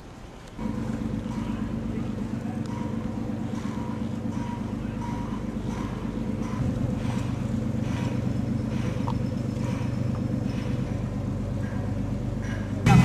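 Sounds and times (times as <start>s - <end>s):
engine running at low revs: 0.6s - 13.0s.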